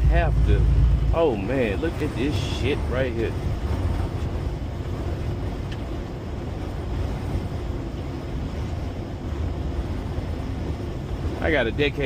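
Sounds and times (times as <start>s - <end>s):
truck engine drone: 0.0s - 12.0s
wind noise: 0.0s - 12.0s.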